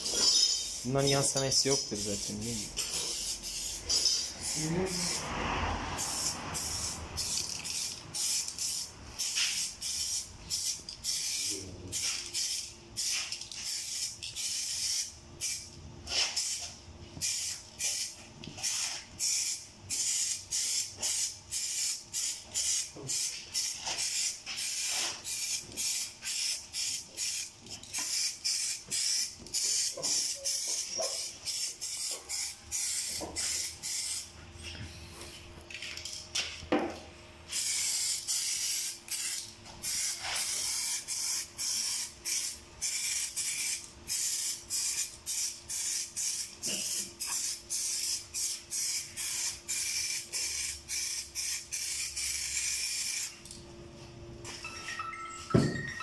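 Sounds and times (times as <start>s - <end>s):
aerosol spray paint hissing: 0.0s - 5.3s, 6.0s - 34.3s, 37.5s - 53.3s.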